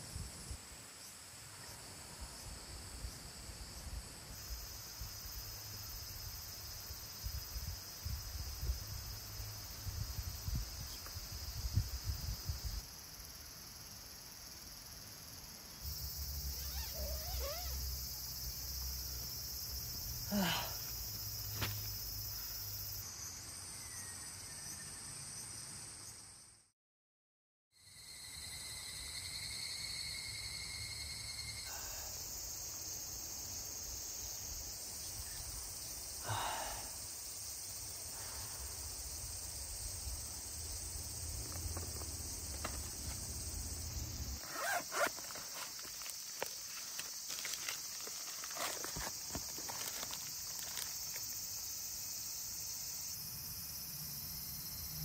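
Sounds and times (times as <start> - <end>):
insects buzzing and trilling: 0.0 - 26.6, 27.8 - 55.0.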